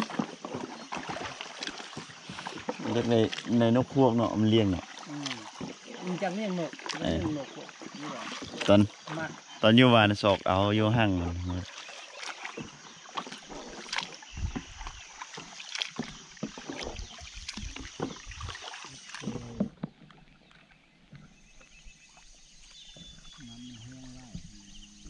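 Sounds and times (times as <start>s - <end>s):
paddle splashing and knocking hull: 0.0s - 25.0s.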